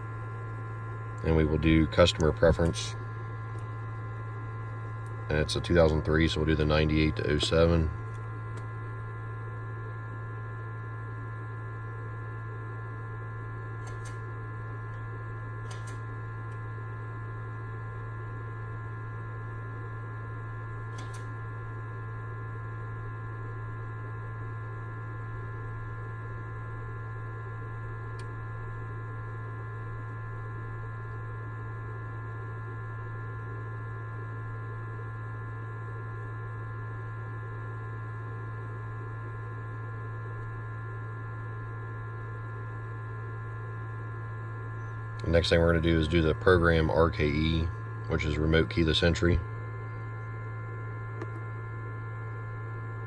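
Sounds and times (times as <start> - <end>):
electrical hum with whine: 0.0 - 53.0.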